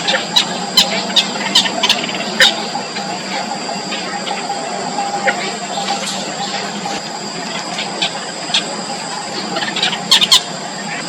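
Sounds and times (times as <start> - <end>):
nestling birds cheeping: 0.0 - 11.0.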